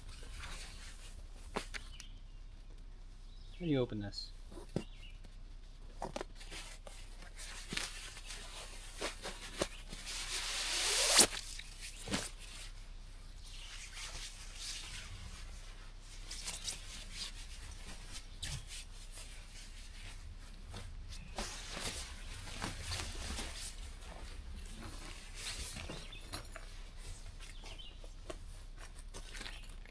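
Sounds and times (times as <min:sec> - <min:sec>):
rustling and rubbing of packaging: 0:00.0 - 0:02.0, 0:04.4 - 0:29.9.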